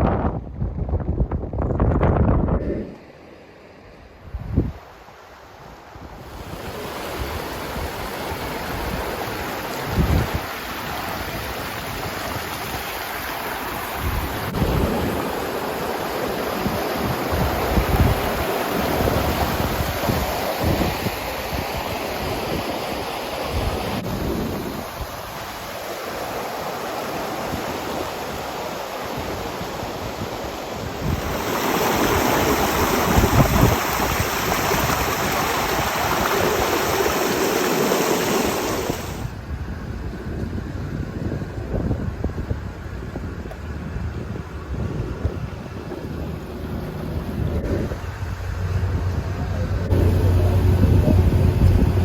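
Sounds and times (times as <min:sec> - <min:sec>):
wind buffeting microphone: 0:00.0 - 0:03.2, 0:06.0 - 0:22.7, 0:29.1 - 0:52.0
rushing water: 0:02.7 - 0:52.0.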